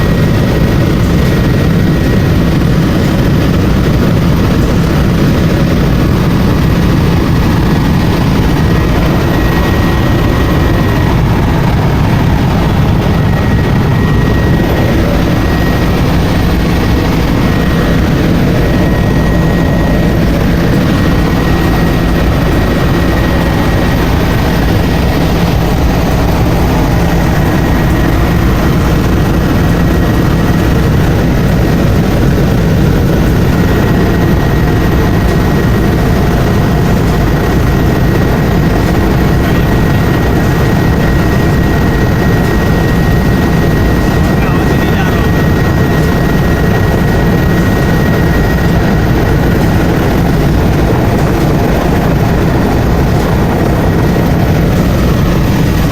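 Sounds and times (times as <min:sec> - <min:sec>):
helicopter engine and rotor noise: 0:00.0 - 0:55.9
thin whine: 0:00.0 - 0:55.9.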